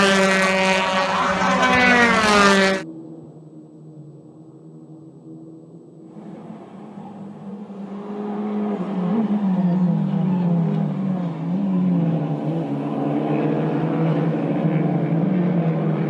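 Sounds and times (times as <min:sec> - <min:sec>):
race car engine running: 0:00.0 - 0:16.0.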